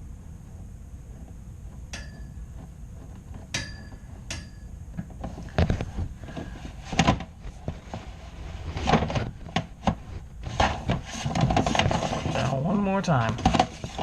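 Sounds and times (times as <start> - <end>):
brush knocking and scraping in duct: 0.4 - 14.0.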